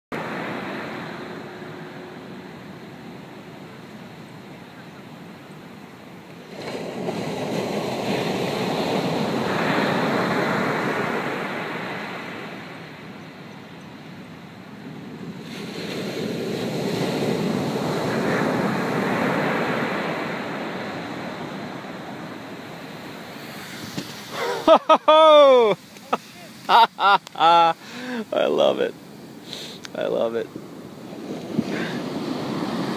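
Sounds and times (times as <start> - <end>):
waves breaking on beach: 0.2 - 32.9.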